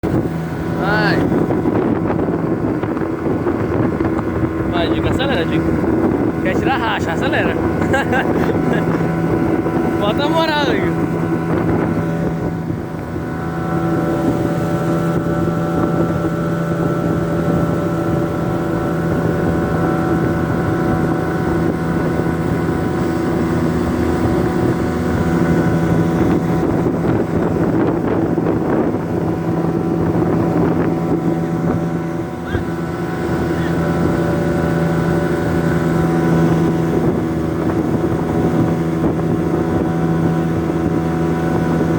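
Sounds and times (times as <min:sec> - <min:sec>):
boat engine running: 0:00.0 - 0:41.9
water noise: 0:00.0 - 0:41.9
wind noise: 0:00.0 - 0:41.9.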